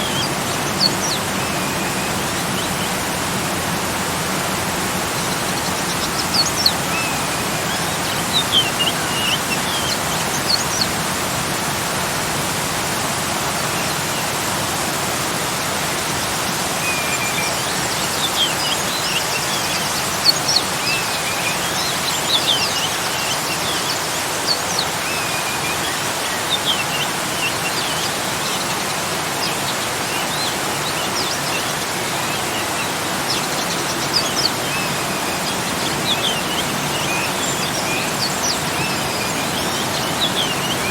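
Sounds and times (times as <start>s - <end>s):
small waterfall rushing: 0.0s - 40.9s
songbirds chirping: 0.0s - 40.9s.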